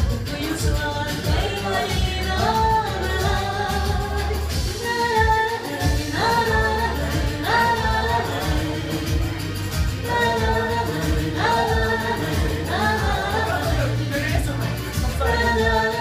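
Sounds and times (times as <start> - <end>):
keyboard accompaniment: 0.0 - 16.0
person singing: 0.0 - 16.0
steady bass beat: 0.0 - 16.0.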